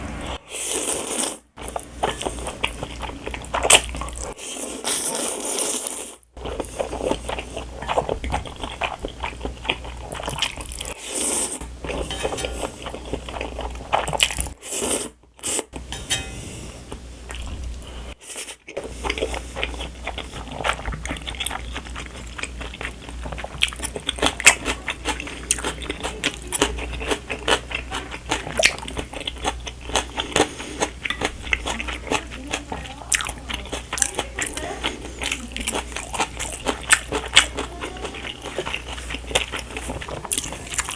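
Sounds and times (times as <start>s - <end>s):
chewing and biting noodles: 0.6s - 12.1s, 18.3s - 40.9s.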